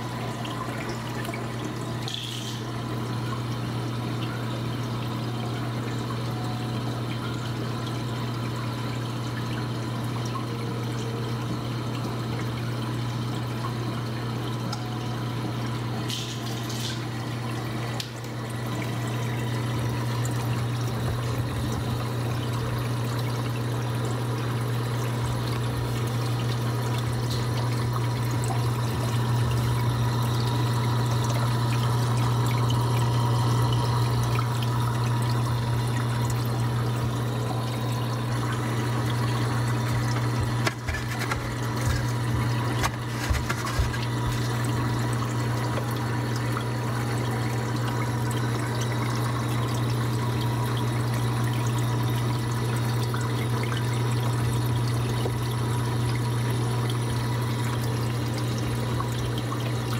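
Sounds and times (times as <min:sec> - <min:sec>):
low pump hum: 0:00.0 - 0:59.9
water trickling and splashing: 0:00.0 - 0:59.9.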